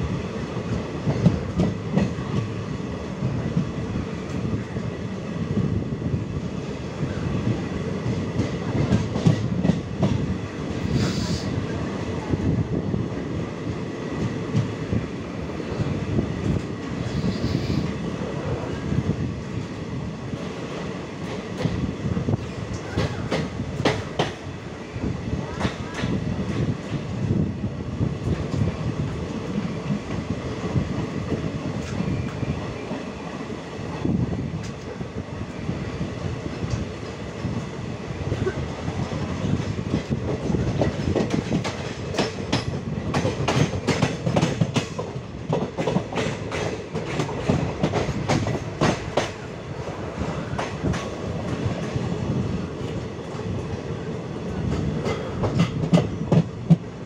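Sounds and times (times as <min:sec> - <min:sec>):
steady train rumble: 0:00.0 - 0:57.0
train wheels clattering on track: 0:00.0 - 0:57.0.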